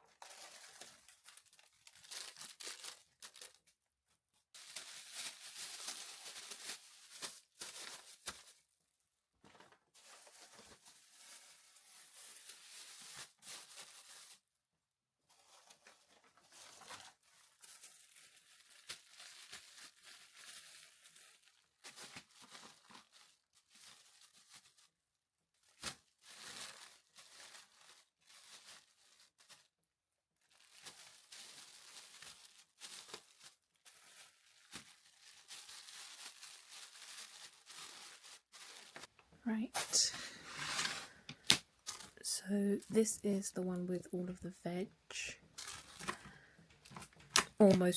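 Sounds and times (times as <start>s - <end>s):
plastic bags crinkling: 0.0s - 3.7s, 4.6s - 8.6s, 9.4s - 14.4s, 15.4s - 25.0s, 25.6s - 29.7s, 30.4s - 47.9s.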